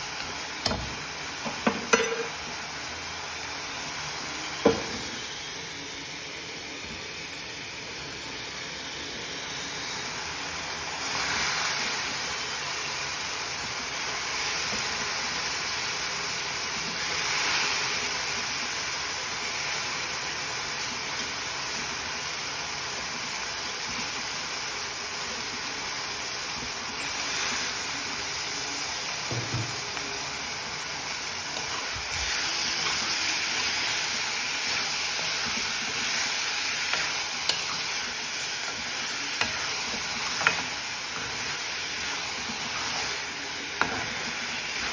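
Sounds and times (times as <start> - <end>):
vegetables sizzling in a frying pan: 0.0 - 44.9.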